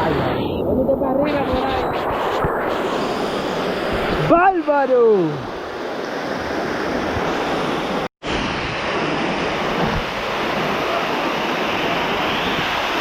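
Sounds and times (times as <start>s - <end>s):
falling water rushing: 1.1s - 13.0s.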